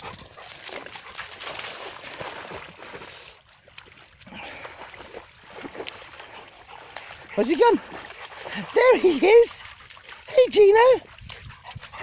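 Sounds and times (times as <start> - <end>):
dog splashing through water: 0.0 - 12.0.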